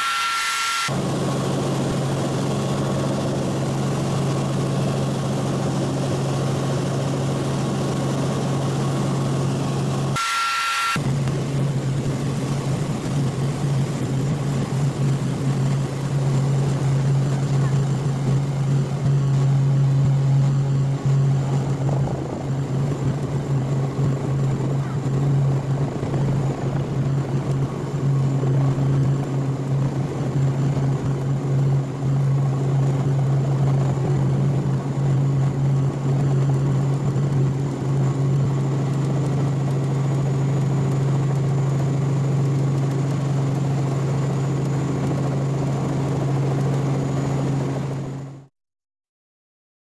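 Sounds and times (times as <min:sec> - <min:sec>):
helicopter engine and rotor drone: 0:00.0 - 0:48.5.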